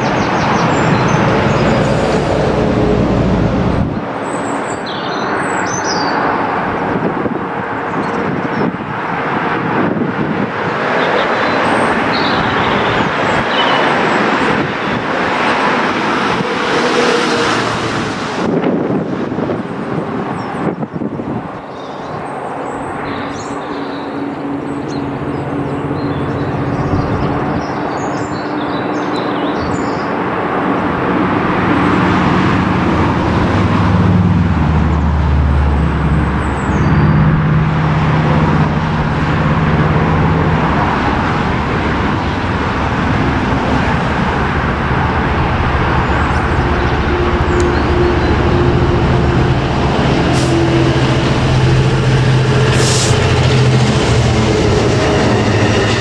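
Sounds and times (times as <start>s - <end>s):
train rumble: 0.0s - 4.7s, 6.2s - 56.0s
diesel locomotive engine: 0.0s - 56.0s.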